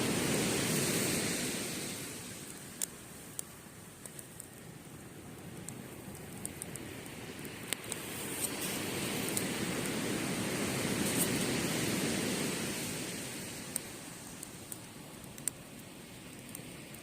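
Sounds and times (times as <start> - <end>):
campfire crackling: 0.0 - 17.0
wave washing up beach: 0.0 - 17.0.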